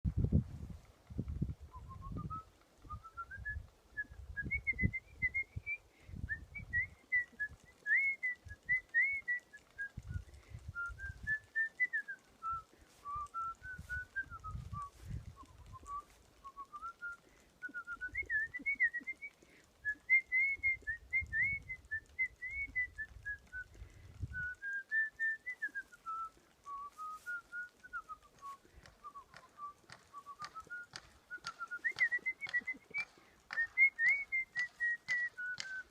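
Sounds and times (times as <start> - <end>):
person whistling a melody: 1.7 - 35.9.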